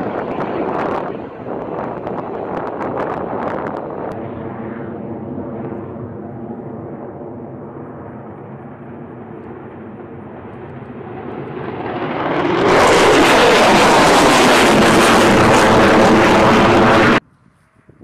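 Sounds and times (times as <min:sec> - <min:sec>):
jet engines droning whine: 0:00.0 - 0:17.2
loud rushing jet noise: 0:00.0 - 0:17.2.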